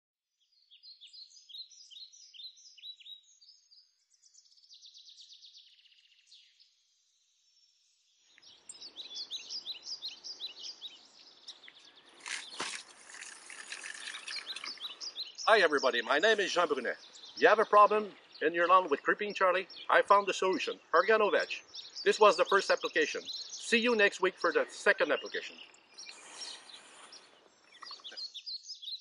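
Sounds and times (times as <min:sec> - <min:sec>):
small birds chirping: 0:00.3 - 0:29.0.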